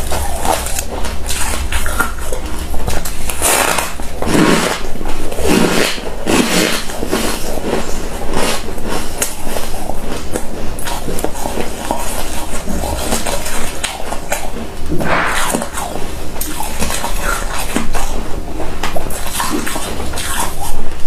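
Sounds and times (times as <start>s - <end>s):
frost being chewed and crunched: 0.0s - 21.0s.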